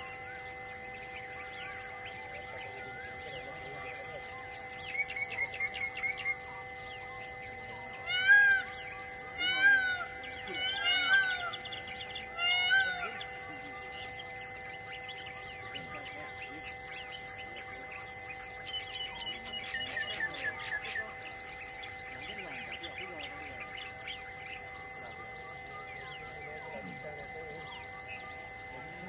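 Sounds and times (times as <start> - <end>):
loud arched bird calls: 0.0 - 26.7
steady high hum: 0.0 - 29.0.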